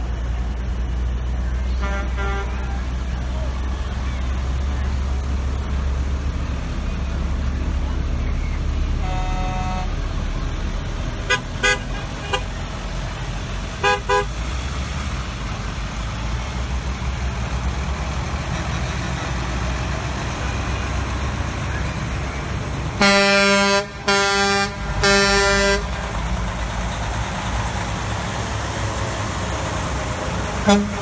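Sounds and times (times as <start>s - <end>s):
truck engines rumbling: 0.0s - 31.0s
truck horns honking: 0.0s - 31.0s.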